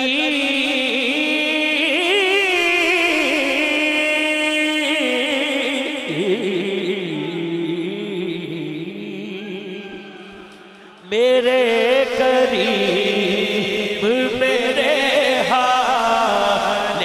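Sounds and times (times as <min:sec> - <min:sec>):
man singing long held notes: 0:00.0 - 0:17.0.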